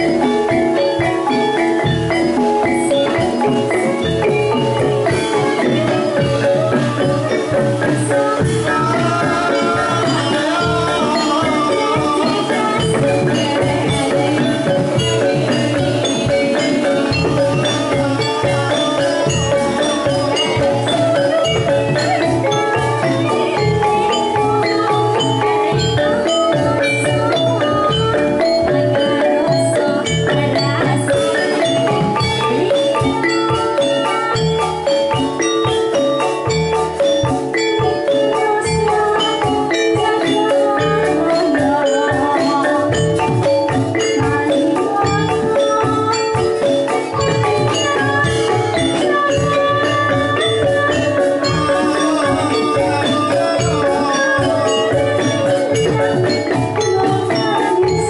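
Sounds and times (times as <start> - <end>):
hand drums beat: 0.0 - 58.0
metal mallet instruments melody: 0.0 - 58.0.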